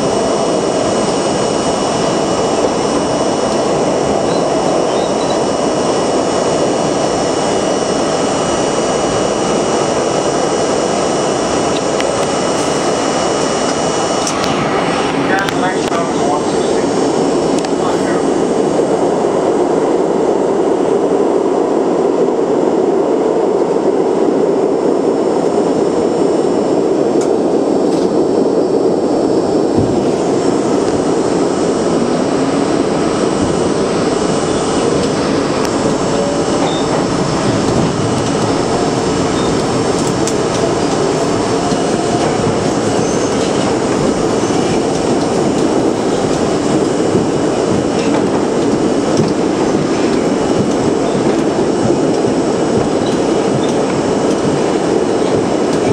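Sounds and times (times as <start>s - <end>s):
train motor whine: 0.0s - 19.7s, 25.0s - 55.9s
train wheels rumbling on rail: 0.0s - 55.9s.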